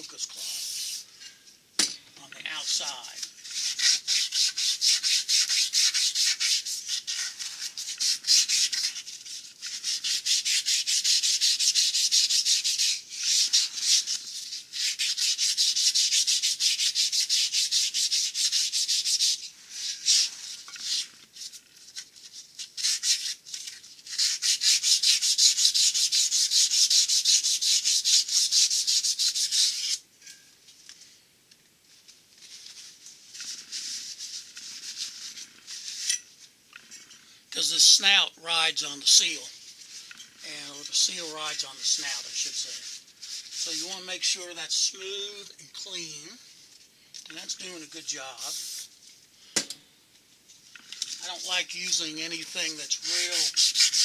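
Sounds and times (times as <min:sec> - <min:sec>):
cloth rubbing on metal: 0:00.0 - 0:01.5, 0:02.4 - 0:31.2, 0:31.8 - 0:49.5, 0:50.3 - 0:54.0.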